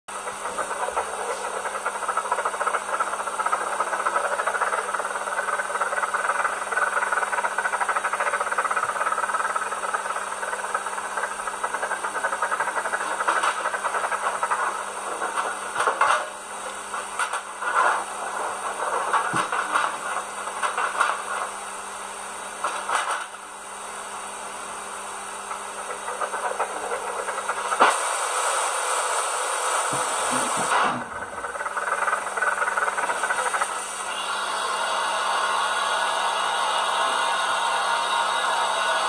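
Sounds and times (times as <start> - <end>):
steam chuffing from small speaker: 0.1 - 39.0.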